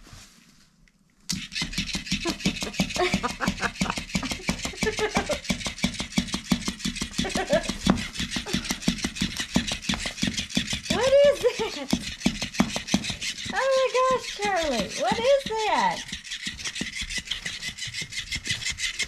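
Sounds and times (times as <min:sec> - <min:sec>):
toy motor with flapping rattle: 0:01.3 - 0:19.0.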